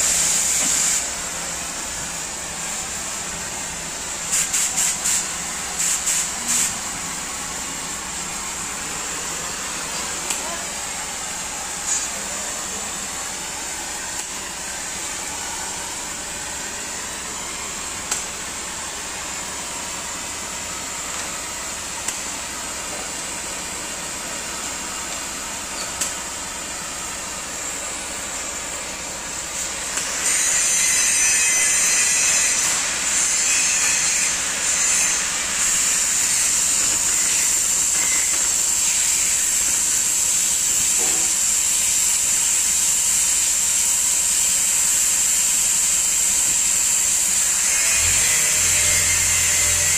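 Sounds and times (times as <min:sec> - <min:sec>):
gas torch hissing: 0:00.0 - 0:49.9.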